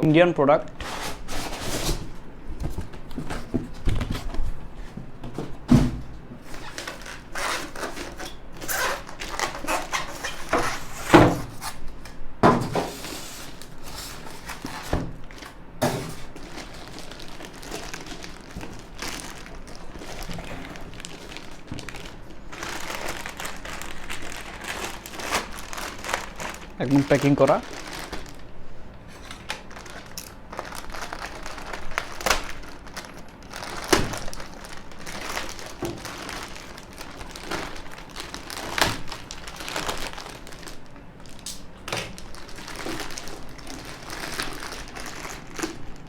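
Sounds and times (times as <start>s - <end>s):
packaging rustling and scraping: 0.7s - 46.0s.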